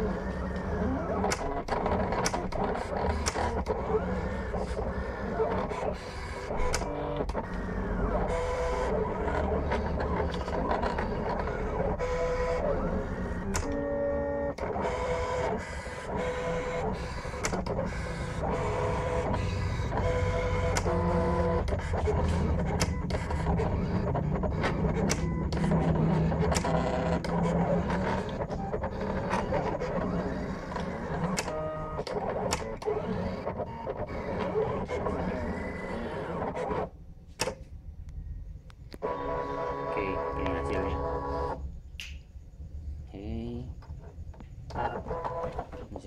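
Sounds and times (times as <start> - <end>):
cutting plotter motors whirring: 0.0 - 37.6, 38.9 - 41.6, 44.4 - 46.0.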